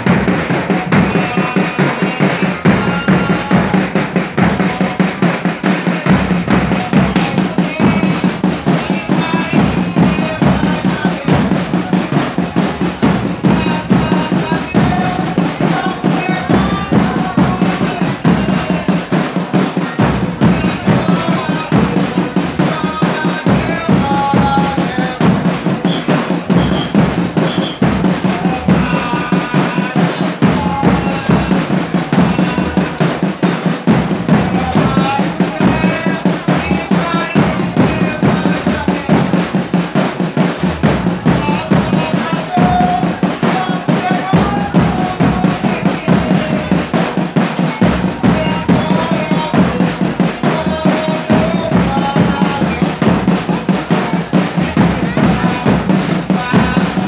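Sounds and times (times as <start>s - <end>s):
melody above drums: 0.0s - 57.0s
snare drums drumming: 0.0s - 57.0s.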